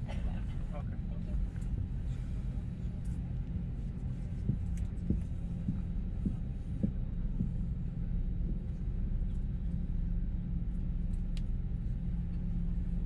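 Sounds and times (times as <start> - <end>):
aircraft cabin engine hum: 0.0 - 13.0.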